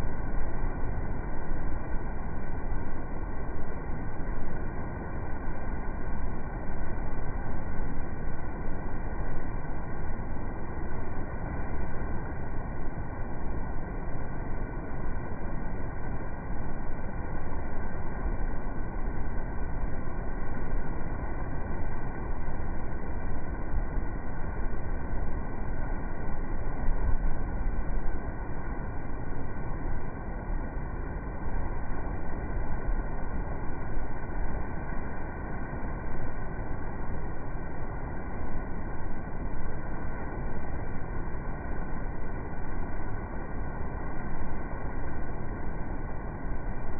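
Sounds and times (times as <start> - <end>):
water rushing in ship's wake: 0.0 - 46.9.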